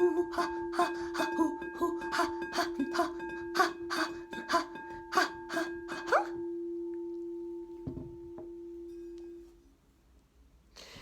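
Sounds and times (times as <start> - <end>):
singing bowl ringing: 0.0 - 9.8.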